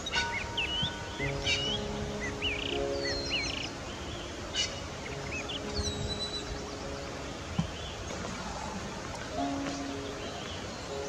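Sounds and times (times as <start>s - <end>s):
small birds chirping: 0.0s - 11.0s
soft background music: 0.0s - 11.0s.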